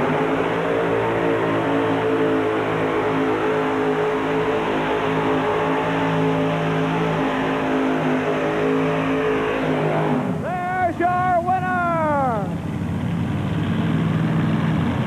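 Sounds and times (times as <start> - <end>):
tractor engine running hard: 0.0 - 15.0.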